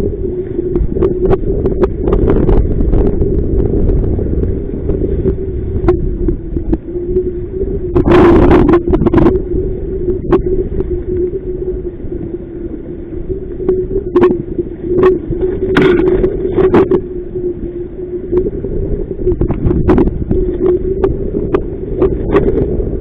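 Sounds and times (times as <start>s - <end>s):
low hum: 0.0s - 23.0s
wind rumbling on microphone: 0.0s - 23.0s.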